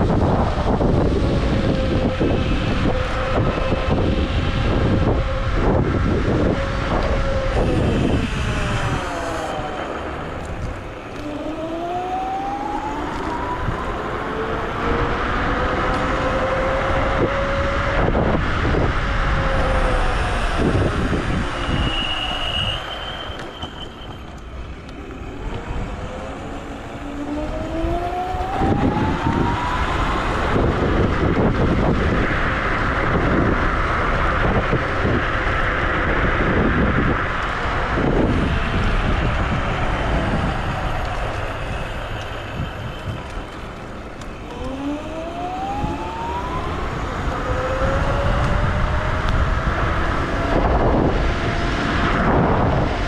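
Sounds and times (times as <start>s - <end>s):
electric scooter motors whining: 0.0s - 53.0s
road rumble: 0.0s - 53.0s
wind noise: 0.0s - 53.0s.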